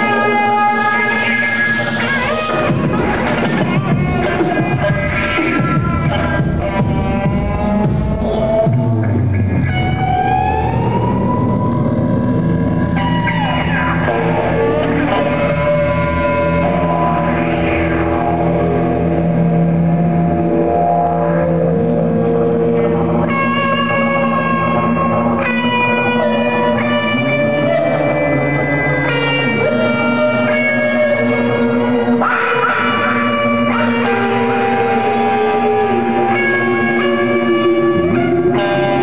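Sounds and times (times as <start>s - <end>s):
amplified voices holding tones: 0.0s - 39.0s
electric guitar: 0.0s - 39.0s
steady low drone: 0.0s - 39.0s.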